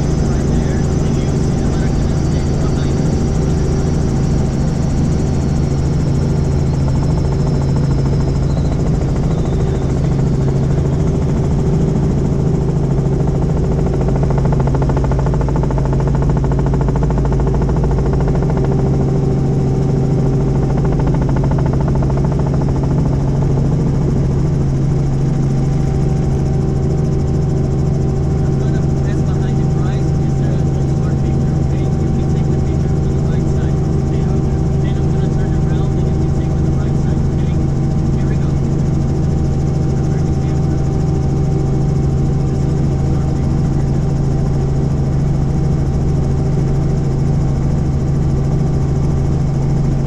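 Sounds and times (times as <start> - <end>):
helicopter engine and rotors droning: 0.0 - 50.0.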